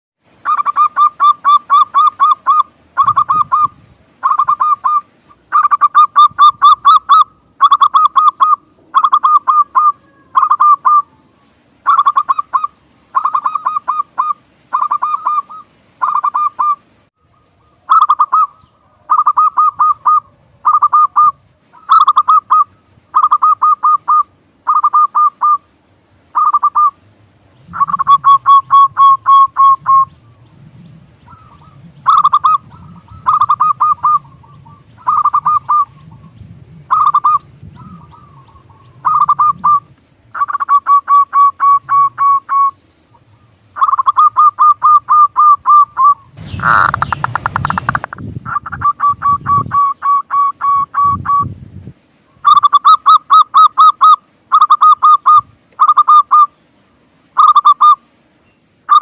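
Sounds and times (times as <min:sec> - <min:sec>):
dove cooing in trilled bursts: 0:00.4 - 0:11.2, 0:11.8 - 0:16.8, 0:17.9 - 0:25.7, 0:26.3 - 0:27.0, 0:27.7 - 0:51.6, 0:52.4 - 0:56.6, 0:57.4 - 0:58.0.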